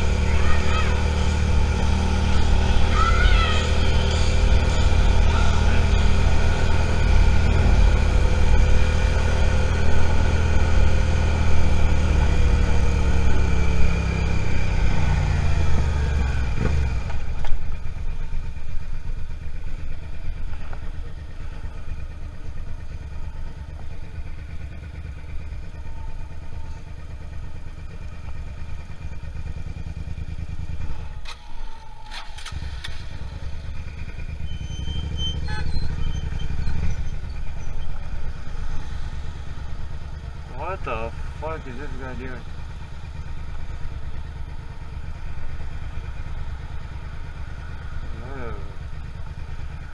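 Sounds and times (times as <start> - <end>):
motorcycle engine slowing and idling: 0.0 - 49.9.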